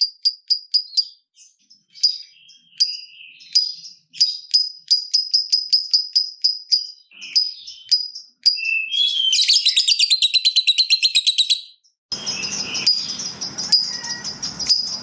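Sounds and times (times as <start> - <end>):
bird chattering trill: 0.0 - 1.3, 1.9 - 15.0
bird chirping: 0.0 - 15.0.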